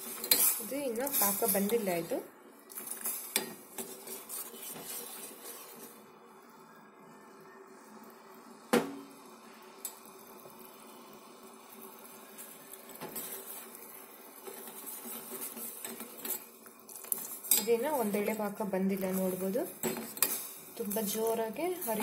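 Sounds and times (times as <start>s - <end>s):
syrup boiling: 0.0s - 22.0s.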